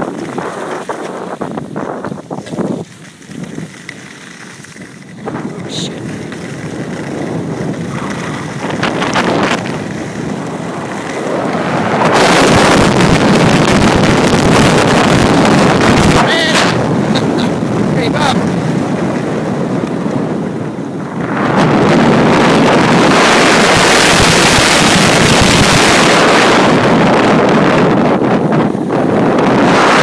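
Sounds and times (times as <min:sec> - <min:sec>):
skis scraping over snow: 0:00.0 - 0:30.0
wind rushing over microphone: 0:00.0 - 0:30.0.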